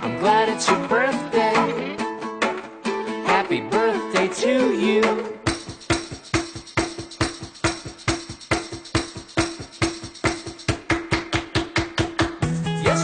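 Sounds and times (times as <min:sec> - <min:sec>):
instrumental pop music: 0:00.0 - 0:13.0.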